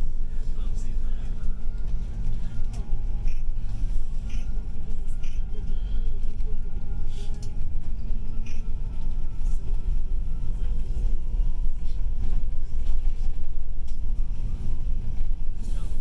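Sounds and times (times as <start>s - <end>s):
bus engine and tyre rumble: 0.0s - 16.0s.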